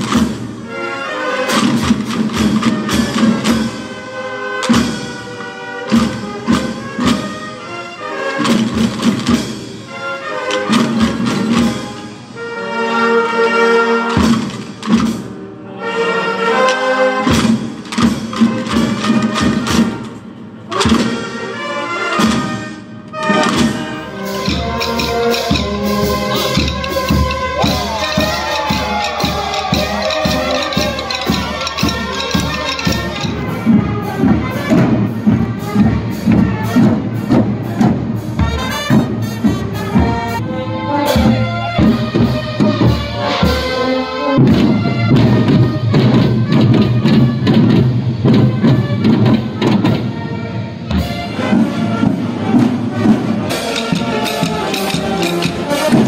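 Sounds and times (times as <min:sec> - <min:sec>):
snare drums in march rhythm: 0:00.0 - 0:12.5, 0:13.6 - 0:15.5, 0:16.8 - 0:56.0
brass playing a tune: 0:00.6 - 0:08.8, 0:09.5 - 0:14.3, 0:15.4 - 0:17.4, 0:18.3 - 0:56.0.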